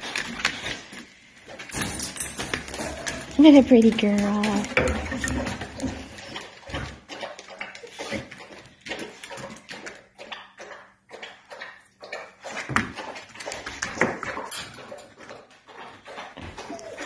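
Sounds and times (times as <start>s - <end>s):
dog sniffing and snuffling: 2.8s - 17.0s.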